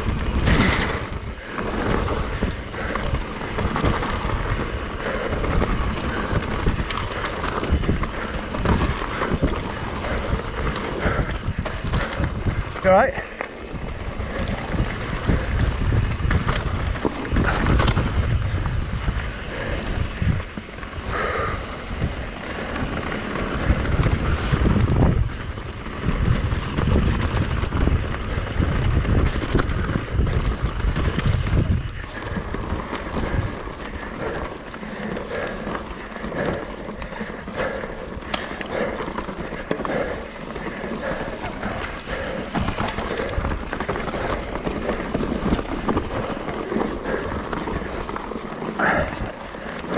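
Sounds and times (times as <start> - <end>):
bike tyres rumbling over stones: 0.0 - 49.9
wind buffeting microphone: 0.0 - 49.9.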